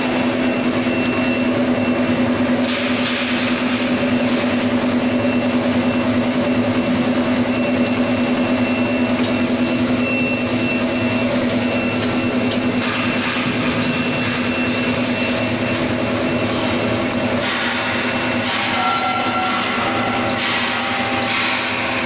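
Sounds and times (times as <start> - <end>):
oil press machine hum: 0.0 - 22.0.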